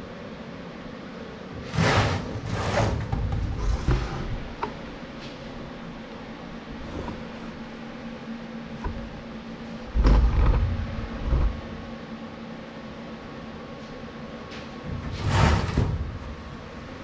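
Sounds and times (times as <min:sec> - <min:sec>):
cooling fan humming: 0:00.0 - 0:17.0.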